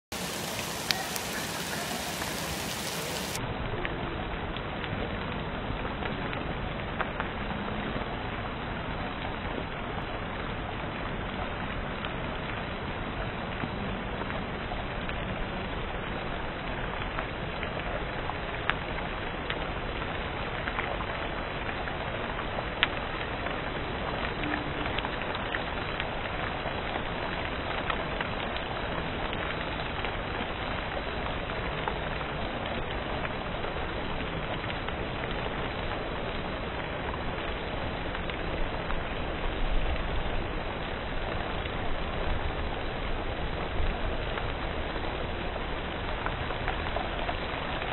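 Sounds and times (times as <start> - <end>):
hail and rain hissing: 0.1 - 47.9.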